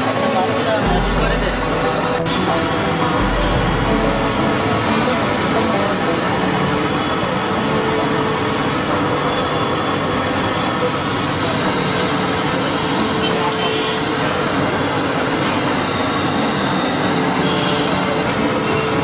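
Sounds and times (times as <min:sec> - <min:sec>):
street din rumble and hiss: 0:00.0 - 0:19.0.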